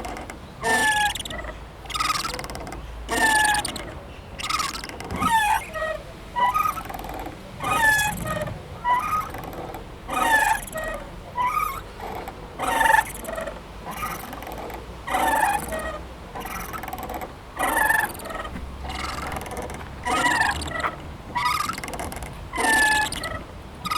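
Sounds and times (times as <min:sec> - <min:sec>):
swing squeaking: 0:00.0 - 0:23.9.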